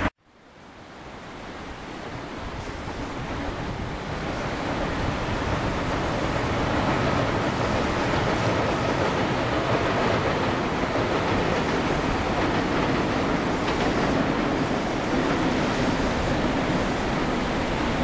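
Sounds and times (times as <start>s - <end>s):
river rapids rushing: 0.0s - 18.0s
train rumbling over a steel bridge: 0.0s - 18.0s.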